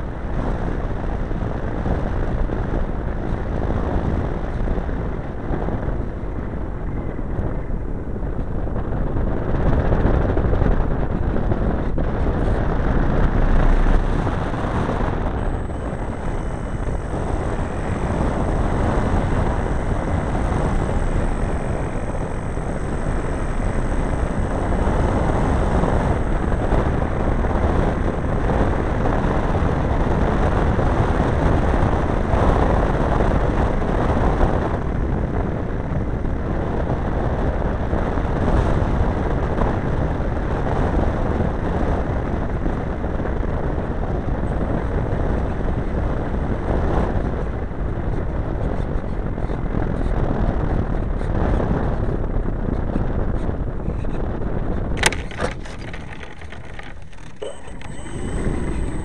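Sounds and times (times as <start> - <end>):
model airplane engine and propeller: 0.0 - 59.0
wind rush: 0.0 - 59.0.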